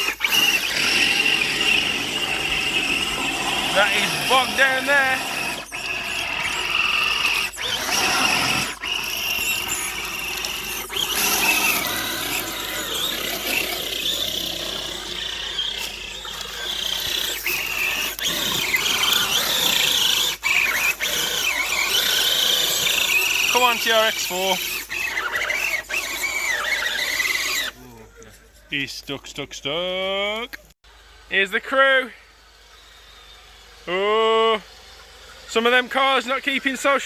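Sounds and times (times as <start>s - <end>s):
electric motor whining: 0.0s - 28.3s, 32.2s - 37.0s.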